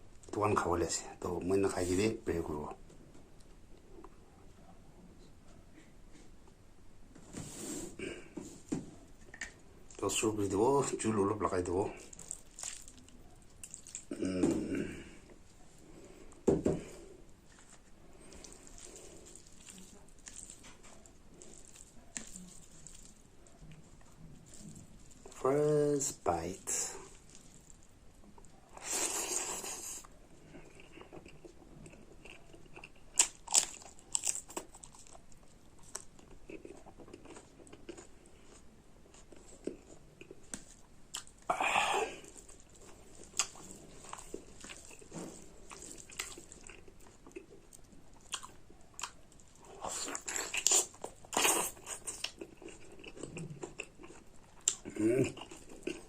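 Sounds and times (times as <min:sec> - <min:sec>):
chewing food: 0:08.2 - 0:56.0.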